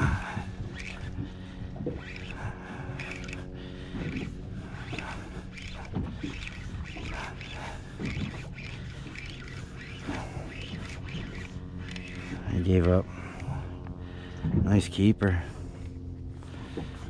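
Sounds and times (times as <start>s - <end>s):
boat mechanical hum: 0.0s - 17.0s
water slapping against hull: 0.0s - 17.0s.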